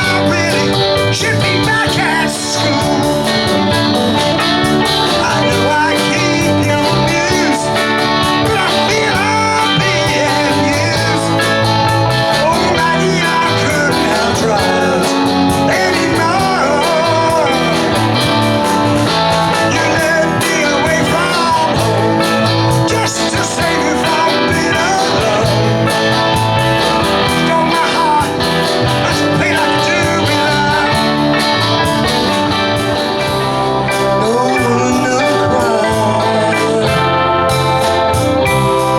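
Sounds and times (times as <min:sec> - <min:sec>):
electric guitar: 0:00.0 - 0:38.9
live rock band playing: 0:00.0 - 0:38.9.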